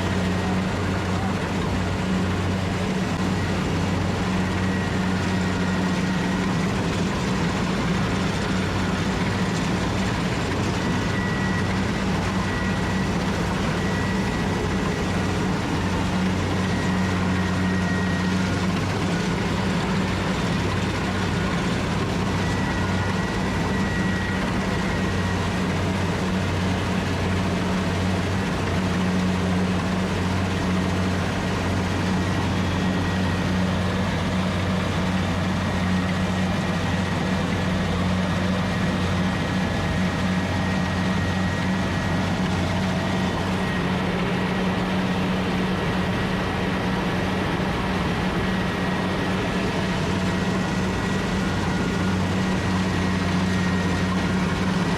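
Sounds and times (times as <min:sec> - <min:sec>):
faint high whine: 0:00.0 - 0:54.9
harvester engine running: 0:00.0 - 0:54.9.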